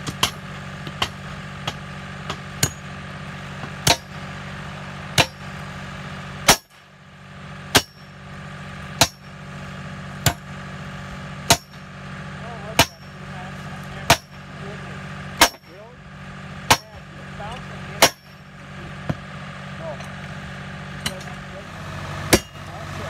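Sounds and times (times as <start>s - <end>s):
steady engine hum: 0.0s - 23.0s.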